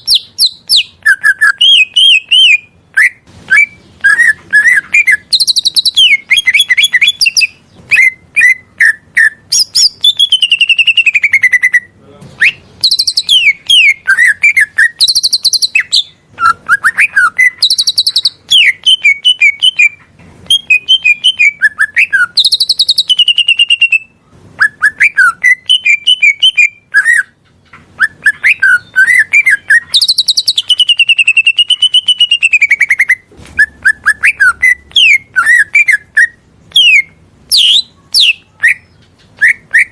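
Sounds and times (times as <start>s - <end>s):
bird singing chirps and whistles: 0.0s - 27.4s, 28.0s - 39.9s.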